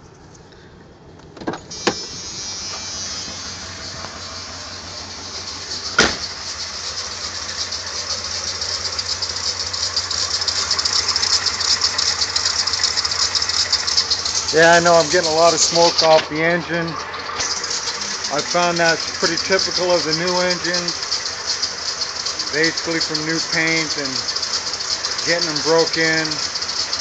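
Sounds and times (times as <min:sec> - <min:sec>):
truck engine idling with clatter: 0:00.0 - 0:27.0.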